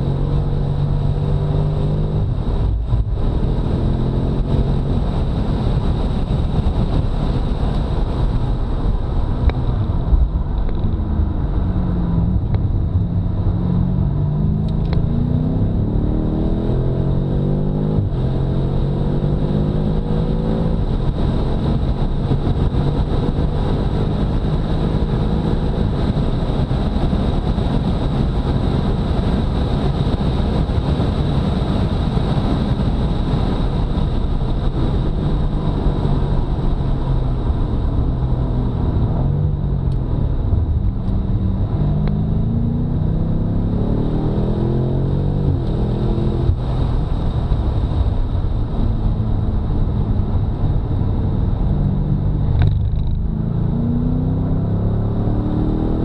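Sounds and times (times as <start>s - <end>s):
car engine revving: 0.0s - 29.6s, 33.0s - 56.0s.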